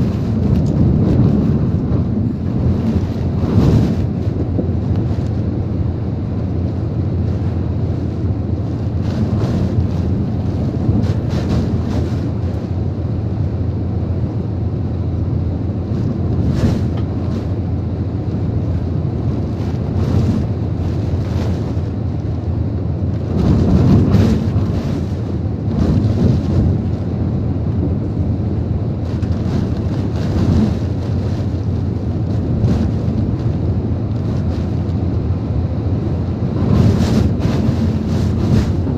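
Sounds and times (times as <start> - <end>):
rain buffeting a truck: 0.0 - 38.9
wind on microphone: 0.0 - 38.9.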